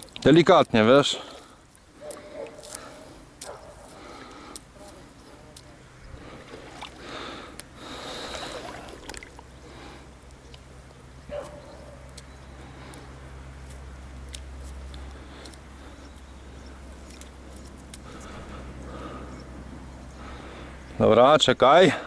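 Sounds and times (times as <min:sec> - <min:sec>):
water sloshing around a boot: 0:00.0 - 0:19.4
steady low hum: 0:00.0 - 0:21.1.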